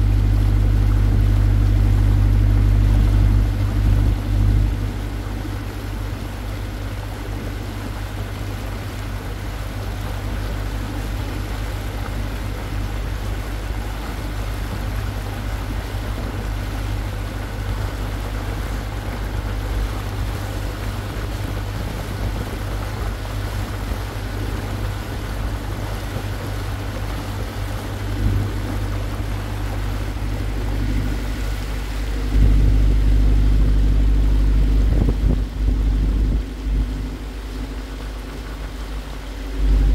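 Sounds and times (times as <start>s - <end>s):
boat engine humming: 0.0s - 39.9s
water washing along hull: 0.0s - 39.9s.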